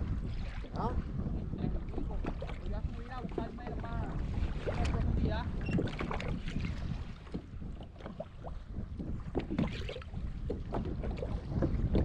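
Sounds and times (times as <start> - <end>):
small waves slapping kayak hull: 0.0 - 12.0
wind rumbling on microphone: 0.0 - 12.0.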